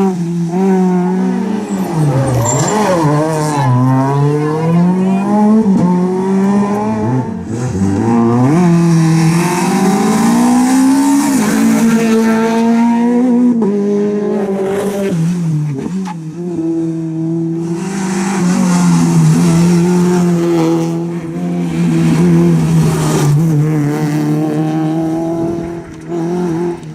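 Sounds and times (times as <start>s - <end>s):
rally car engine accelerating: 0.0s - 26.9s.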